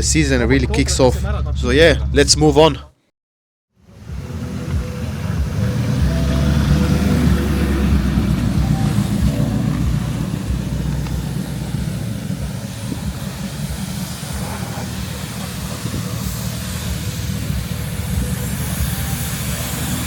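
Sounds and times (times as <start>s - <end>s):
car engine deep note: 3.8s - 20.0s.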